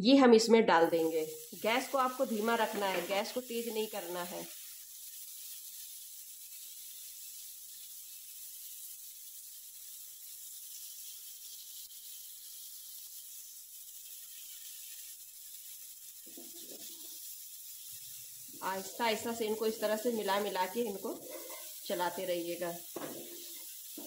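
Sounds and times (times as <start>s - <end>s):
fruit sizzling in butter: 0.7s - 24.0s.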